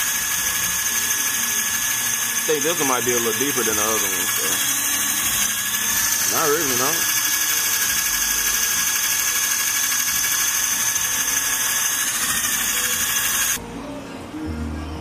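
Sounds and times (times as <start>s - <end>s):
cordless drill whine: 0.0s - 13.6s.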